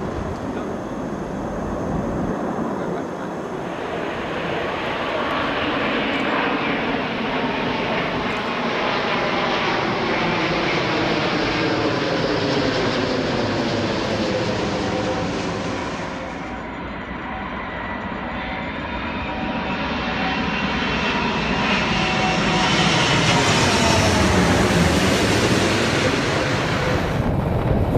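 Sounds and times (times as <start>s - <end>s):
aircraft engines running: 0.0s - 27.9s.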